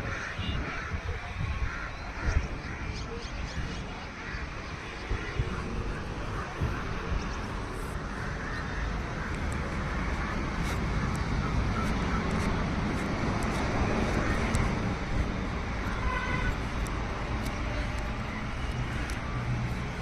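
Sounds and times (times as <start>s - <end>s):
passing vehicles rumbling: 0.0s - 20.0s.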